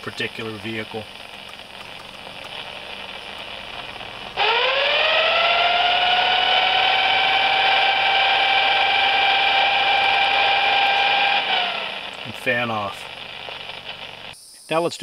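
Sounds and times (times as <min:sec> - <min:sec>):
loud interference whine: 0:00.0 - 0:14.4
radio static hiss: 0:00.0 - 0:15.0.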